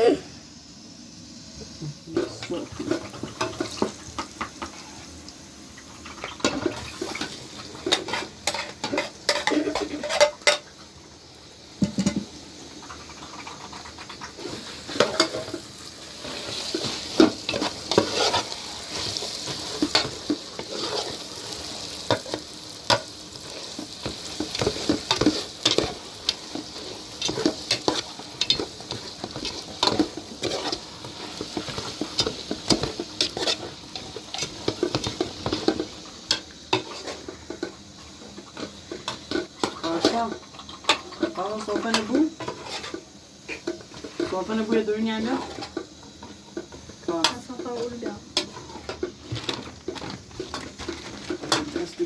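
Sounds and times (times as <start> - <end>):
food sizzling in a pan: 0.0 - 52.0
utensil clinking and scraping pan: 6.3 - 10.7, 11.8 - 12.3, 13.0 - 52.0.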